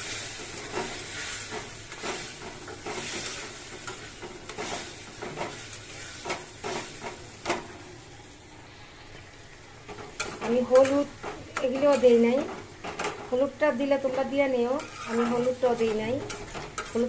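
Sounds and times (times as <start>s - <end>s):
spatula scraping a pan: 0.0s - 7.6s, 9.9s - 13.4s, 14.0s - 17.0s
chutney sizzling: 0.0s - 17.0s.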